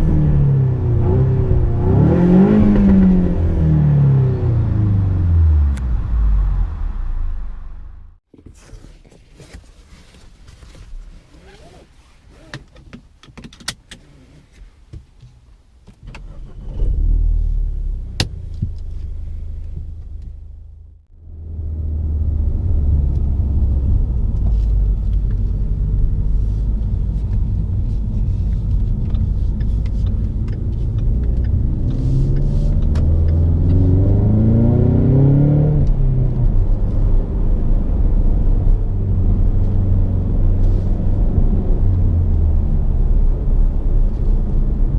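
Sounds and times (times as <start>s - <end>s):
car engine starting and revving: 0.0s - 8.2s, 16.1s - 44.9s.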